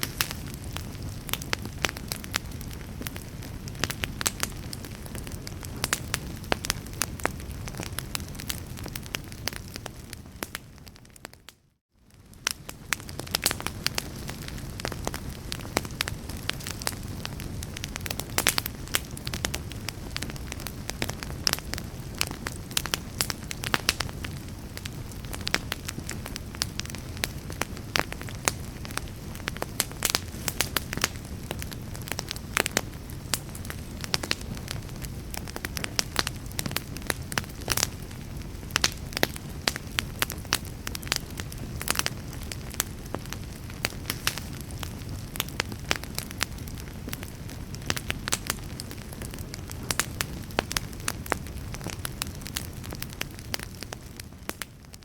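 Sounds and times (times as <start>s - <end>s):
fireplace fire crackling and popping: 0.0s - 55.0s
low rumble of flame: 0.0s - 55.0s.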